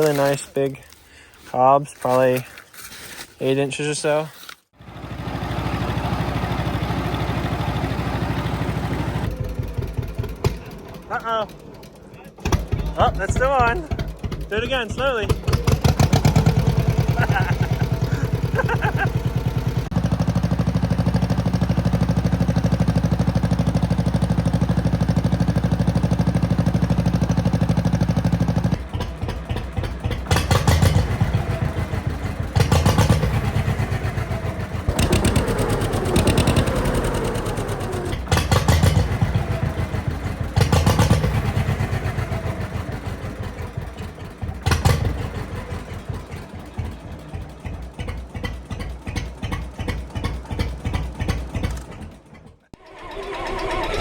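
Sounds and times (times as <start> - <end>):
tractor engine revving: 4.8 - 54.0.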